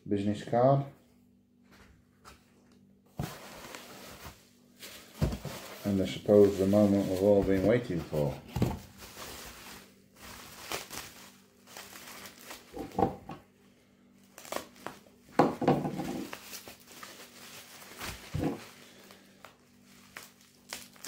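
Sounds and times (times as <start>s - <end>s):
bubble wrap crinkling: 3.2s - 13.2s, 14.2s - 21.0s.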